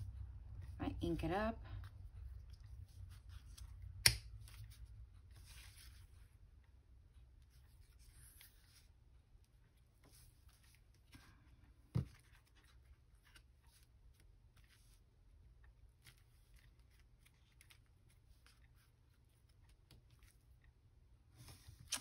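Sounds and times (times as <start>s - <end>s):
faint paper scratching and handling: 0.0s - 22.0s.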